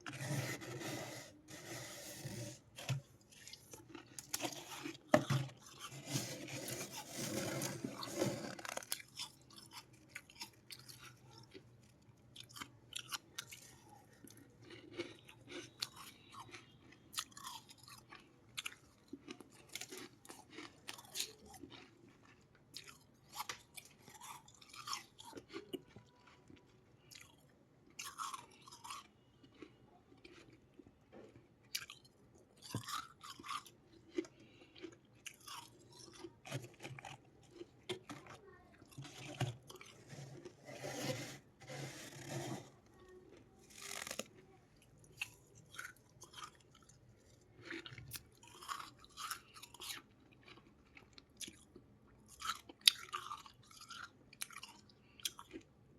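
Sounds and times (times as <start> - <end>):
chewing ice crunches: 0.0 - 55.7.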